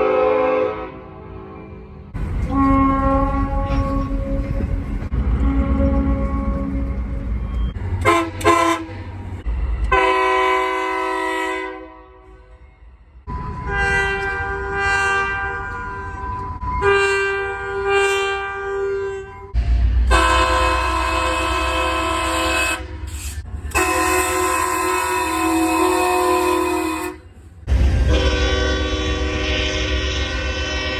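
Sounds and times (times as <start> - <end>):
locomotive air horn blasts: 0.0 - 1.8, 2.4 - 9.0, 9.9 - 12.6, 13.3 - 27.4, 28.0 - 30.9
train rumbling deeply: 0.0 - 30.9.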